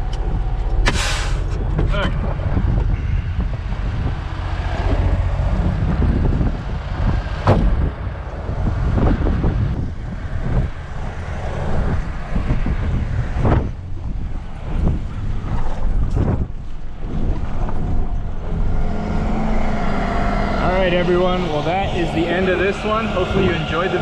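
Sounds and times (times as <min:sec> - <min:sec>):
low vehicle rumble: 0:00.0 - 0:24.0
wind buffeting microphone: 0:00.0 - 0:24.0.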